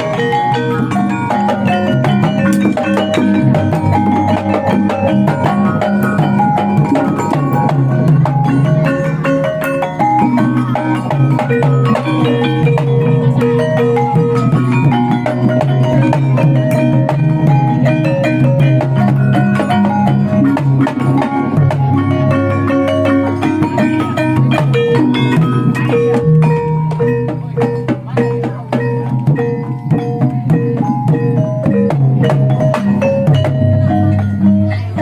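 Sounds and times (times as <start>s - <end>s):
metallophones ringing notes: 0.0s - 35.0s
steady drumming: 0.0s - 35.0s.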